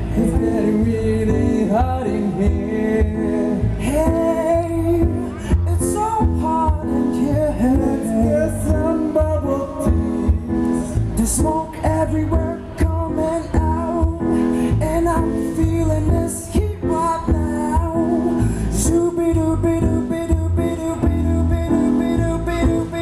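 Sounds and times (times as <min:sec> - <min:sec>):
keyboard: 0:00.0 - 0:23.0
person singing: 0:00.0 - 0:23.0.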